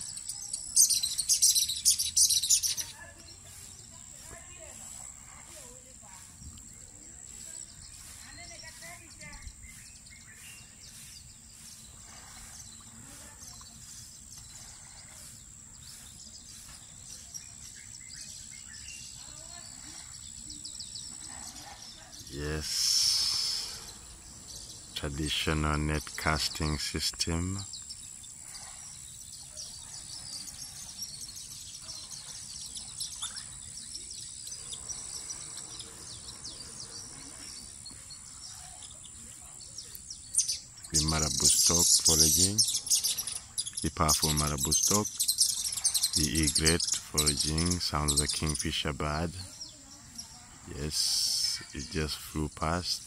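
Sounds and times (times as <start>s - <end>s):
faint bird chirps: 0.0s - 53.0s.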